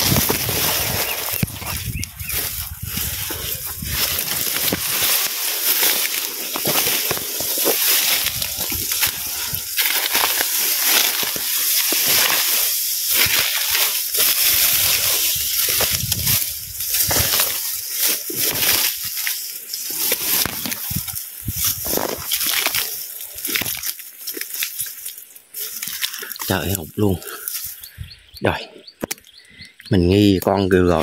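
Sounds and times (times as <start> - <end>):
feet sloshing through shallow water: 0.0 - 26.5.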